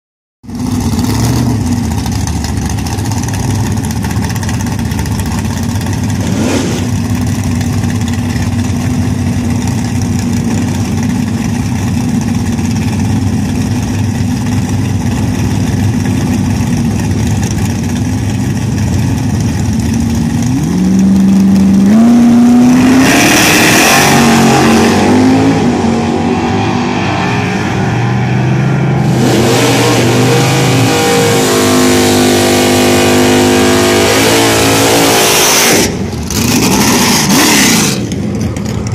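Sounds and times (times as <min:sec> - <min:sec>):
drag car engine: 0:00.4 - 0:38.9.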